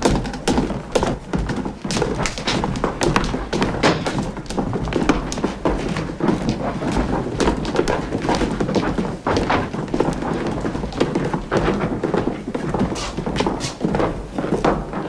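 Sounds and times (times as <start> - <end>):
footsteps on wooden stairs: 0.0 - 15.0.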